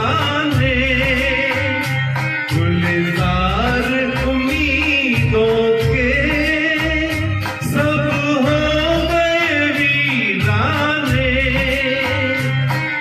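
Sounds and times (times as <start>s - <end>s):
instrumental backing with bass: 0.0s - 13.0s
man singing: 0.0s - 13.0s.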